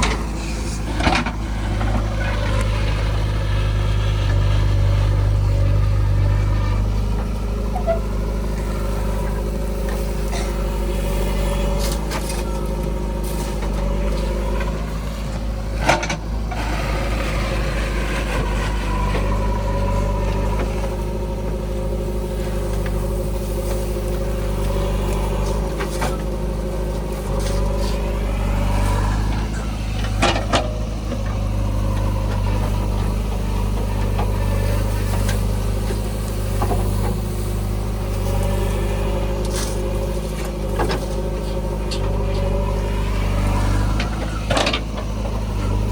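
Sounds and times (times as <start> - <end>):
backhoe diesel engine running: 0.0 - 45.9
hydraulic whine: 0.0 - 45.9.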